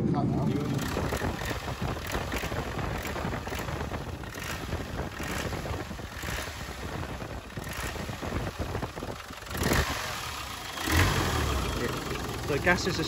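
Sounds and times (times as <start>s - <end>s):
diesel engine running with chatter: 0.0s - 13.0s.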